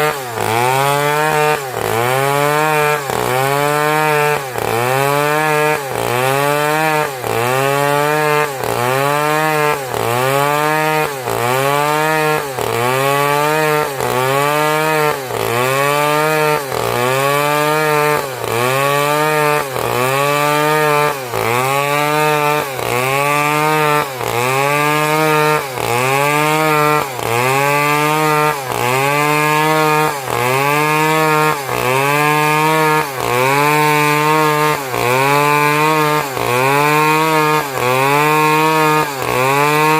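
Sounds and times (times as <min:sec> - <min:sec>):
chainsaw engine running hard: 0:00.0 - 0:39.9.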